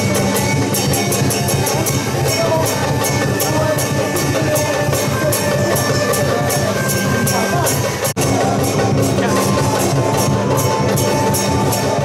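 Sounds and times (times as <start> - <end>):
music with drums and percussion: 0.0 - 12.0.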